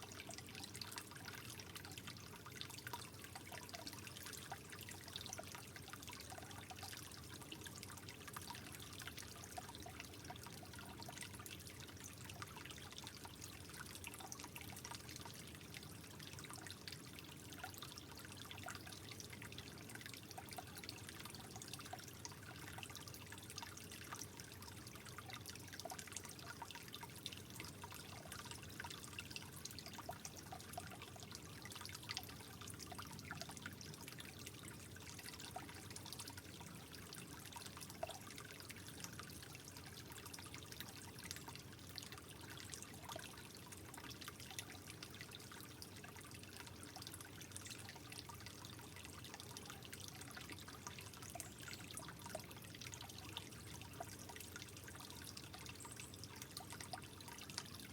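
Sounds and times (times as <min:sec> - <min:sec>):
small drips and splashes: 0:00.0 - 0:57.9
trickle of running water: 0:00.0 - 0:57.9.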